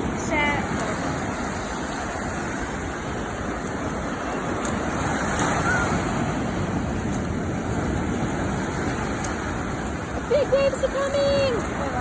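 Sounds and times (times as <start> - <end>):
ocean surf washing onto beach: 0.0 - 12.0
wind on microphone: 0.0 - 12.0.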